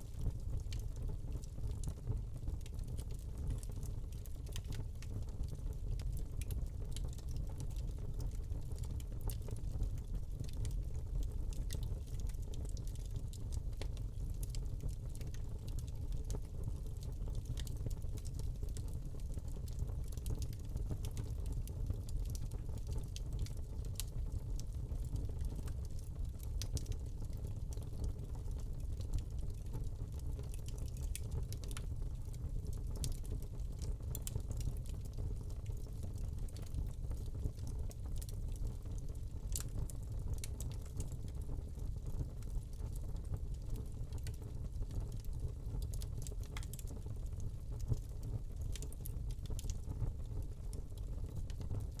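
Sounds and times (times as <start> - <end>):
low rumble of flames: 0.0 - 52.0
fire crackling and snapping: 0.1 - 52.0.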